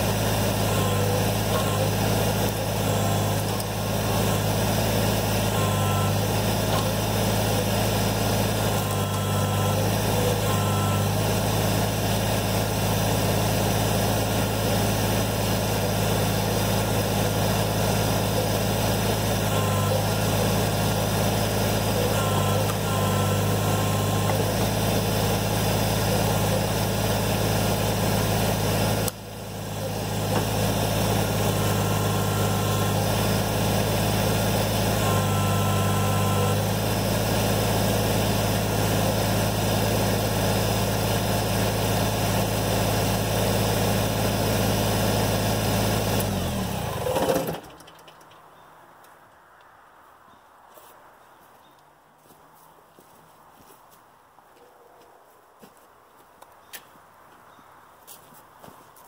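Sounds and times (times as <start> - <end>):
hydraulic whine: 0.0 - 47.8
tractor diesel engine running: 0.0 - 48.2.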